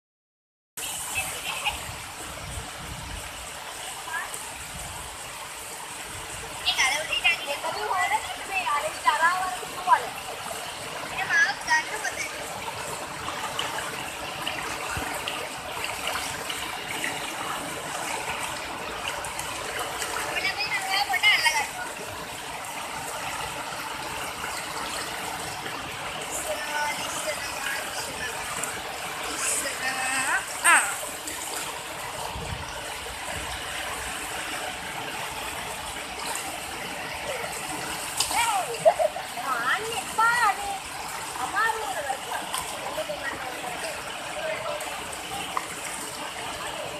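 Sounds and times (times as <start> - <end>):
water rushing over rocks: 0.8 - 46.9.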